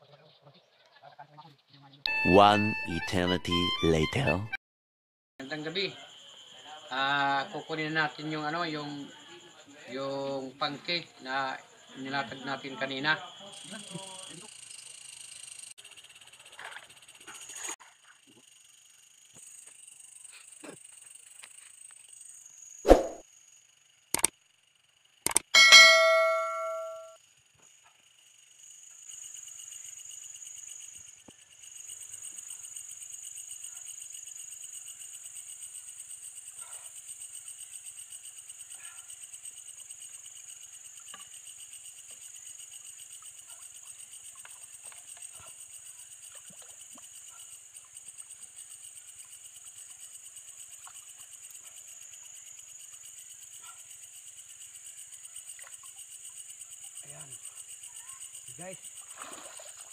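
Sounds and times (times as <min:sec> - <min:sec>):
night insects trilling: 0:05.4 - 0:26.4, 0:27.2 - 0:59.9.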